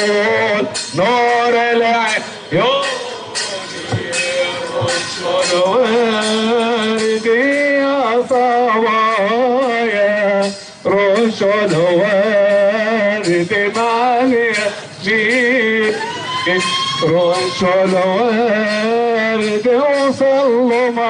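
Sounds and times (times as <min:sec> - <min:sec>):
hymn with ornamented melody: 0:00.0 - 0:21.0.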